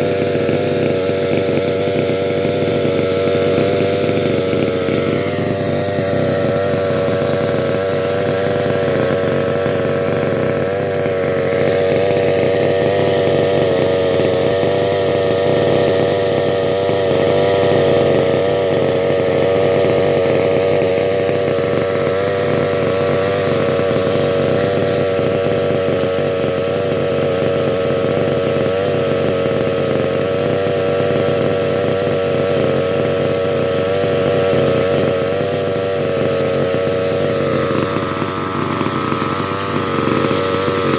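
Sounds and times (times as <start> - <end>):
two-stroke engine running: 0.0 - 40.9.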